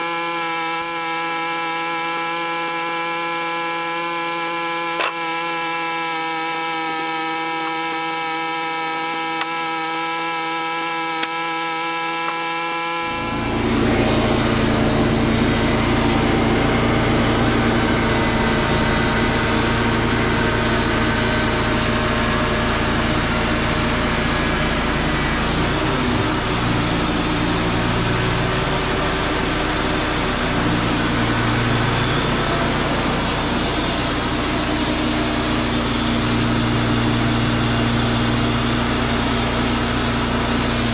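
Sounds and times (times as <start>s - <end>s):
saw blade cutting log: 0.0s - 40.9s
sawmill engine running: 0.0s - 40.9s.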